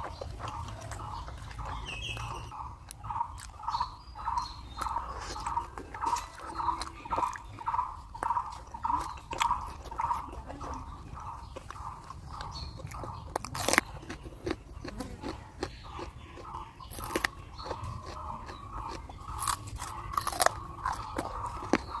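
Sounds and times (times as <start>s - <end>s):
crunchy bites: 0.0s - 22.0s
mouth clicks: 0.0s - 22.0s
person chewing food: 0.0s - 22.0s.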